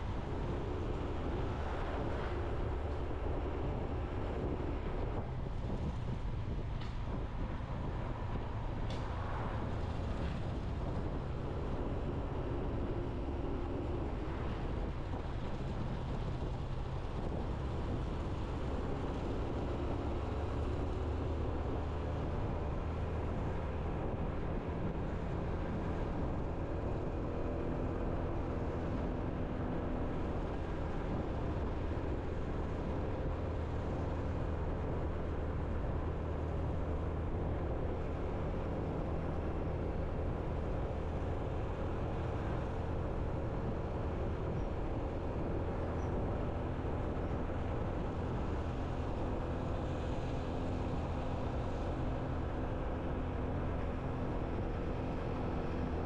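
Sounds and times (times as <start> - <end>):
road and wind noise: 0.0 - 56.0.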